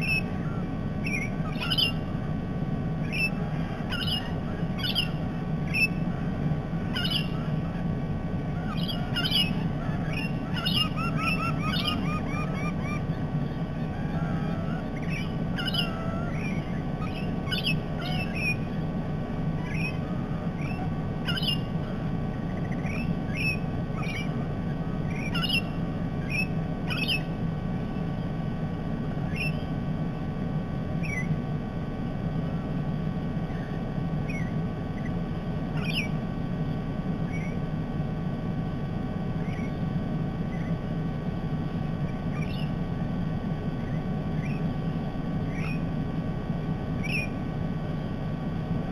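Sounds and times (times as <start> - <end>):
parrots chirping: 0.0 - 28.3, 29.1 - 29.9, 30.9 - 31.4, 33.4 - 37.6, 39.3 - 40.9, 41.8 - 42.8, 43.4 - 46.0, 46.9 - 47.5
steady low rumble: 0.0 - 48.9.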